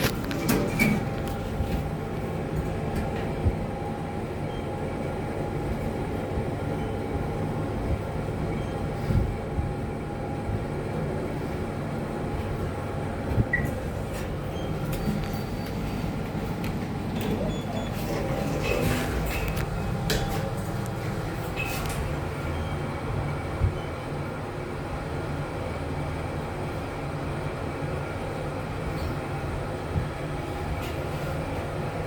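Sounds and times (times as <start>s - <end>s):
lift car rumble and hum: 0.0s - 32.0s.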